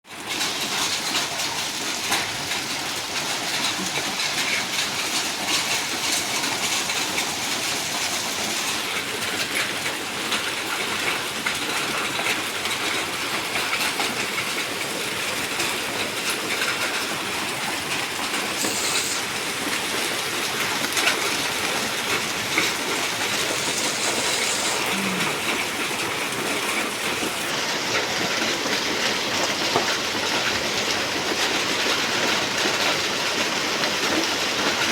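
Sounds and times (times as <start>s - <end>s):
heavy rain downpour: 0.1s - 34.9s.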